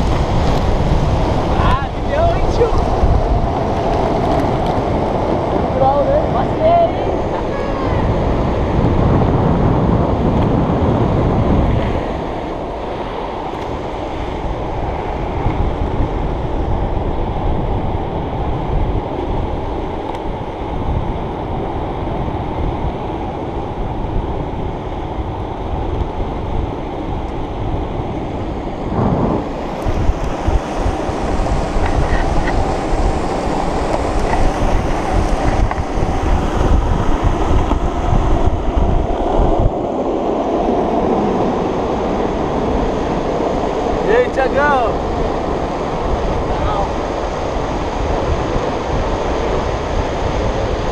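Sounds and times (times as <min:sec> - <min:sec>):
skateboard wheels rolling on asphalt: 0:00.0 - 0:50.9
wind on microphone: 0:00.0 - 0:50.9.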